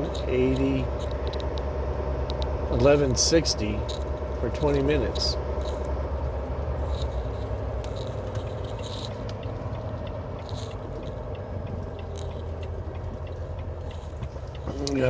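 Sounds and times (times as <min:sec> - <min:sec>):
clicks and rustles in cab: 0:00.0 - 0:15.0
truck engine idling: 0:00.0 - 0:15.0.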